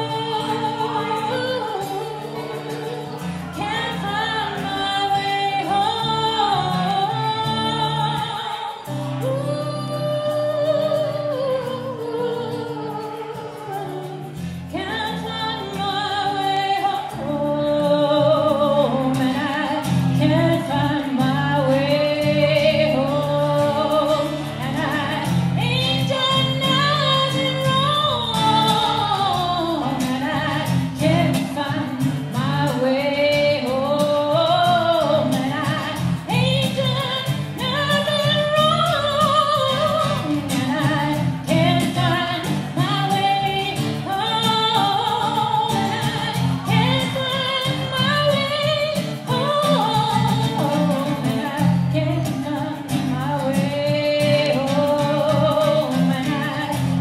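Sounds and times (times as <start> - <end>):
acoustic guitar: 0.0 - 57.0
woman singing slow song: 0.0 - 57.0.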